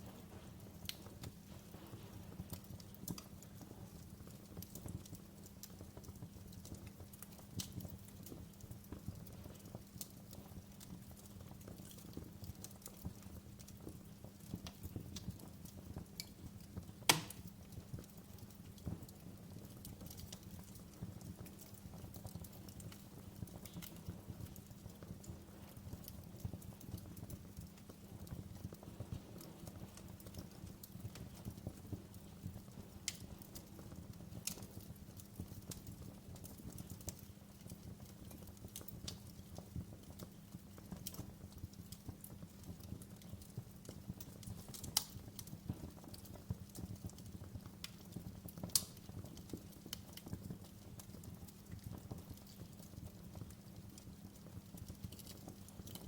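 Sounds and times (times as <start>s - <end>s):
fire pops and snaps: 0.0s - 56.0s
low rumble of flames: 0.0s - 56.0s.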